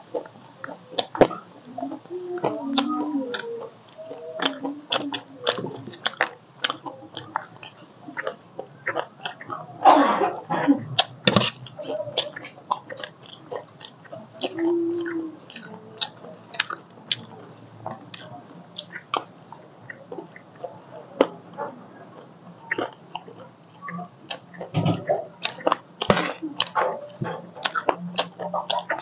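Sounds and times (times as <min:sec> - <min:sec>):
crunchy chewing: 0:00.0 - 0:29.0.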